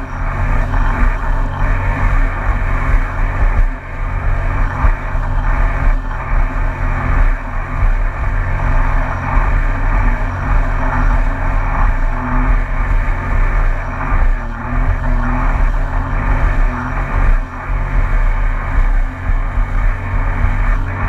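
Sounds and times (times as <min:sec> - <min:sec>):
watercraft engine running: 0:00.0 - 0:21.0.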